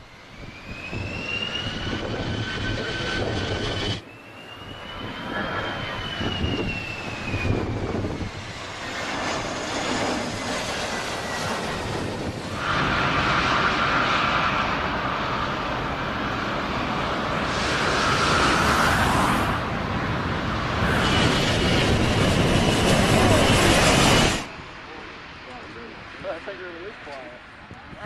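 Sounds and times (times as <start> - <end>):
jet engines whining: 0.0 - 28.0.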